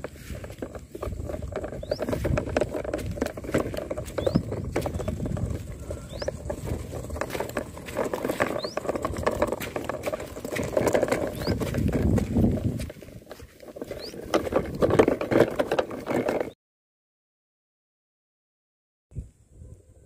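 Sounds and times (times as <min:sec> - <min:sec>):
toy truck tyres crackling on dirt: 0:00.0 - 0:16.6.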